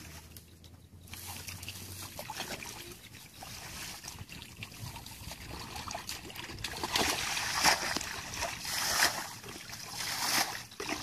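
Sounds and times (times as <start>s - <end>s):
small splashes in muddy water: 1.0s - 11.0s.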